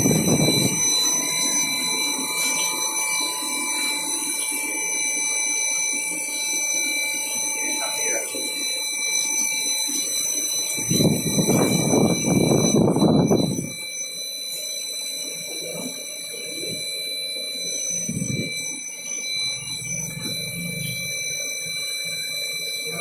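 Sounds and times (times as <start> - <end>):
grinding machine whine: 0.0 - 23.0.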